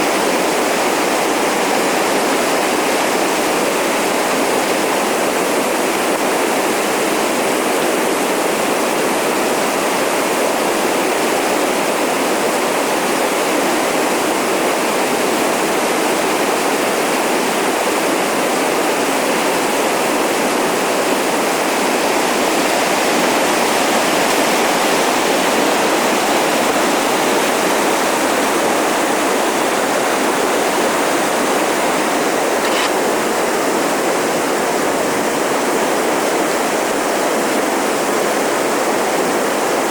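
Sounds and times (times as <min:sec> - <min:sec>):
river rushing through rapids: 0:00.0 - 0:39.9.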